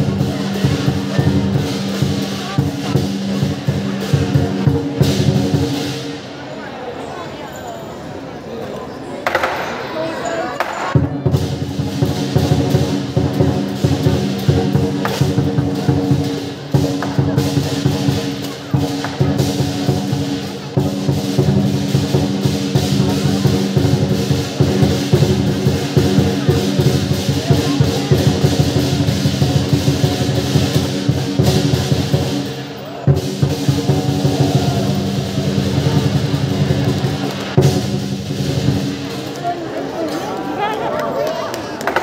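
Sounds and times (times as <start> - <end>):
clashing cymbals: 0.0 - 6.5, 10.6 - 39.4
drum rolls: 0.0 - 6.5, 10.6 - 41.0.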